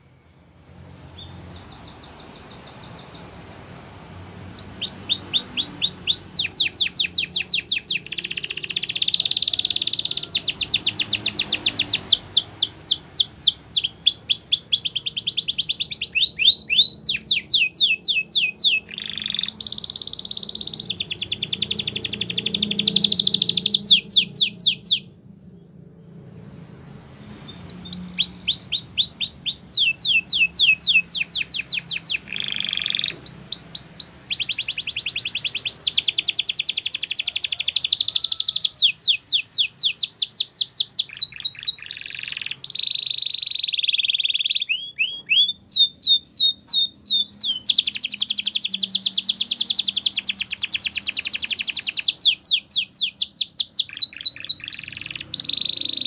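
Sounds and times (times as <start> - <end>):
canary singing trills: 1.2 - 56.0.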